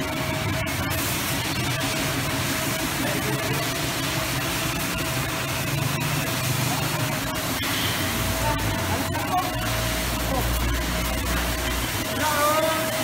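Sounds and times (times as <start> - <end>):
high-pressure water jet hissing: 0.0 - 13.0.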